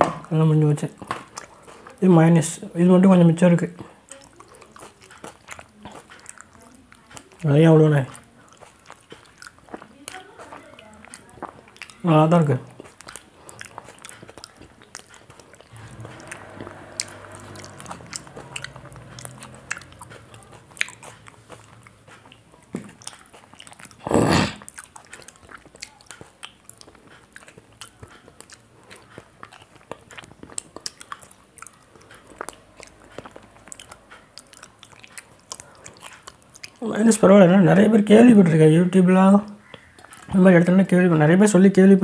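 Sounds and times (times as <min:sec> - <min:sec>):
chewing and mouth smacks: 0:00.0 - 0:02.7, 0:03.5 - 0:37.3, 0:39.4 - 0:40.4.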